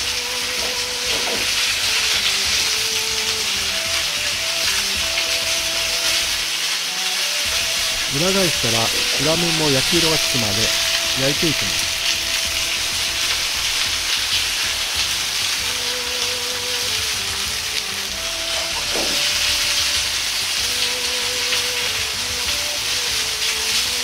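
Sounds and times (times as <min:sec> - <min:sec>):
meat sizzling in a wok: 0:00.0 - 0:24.0.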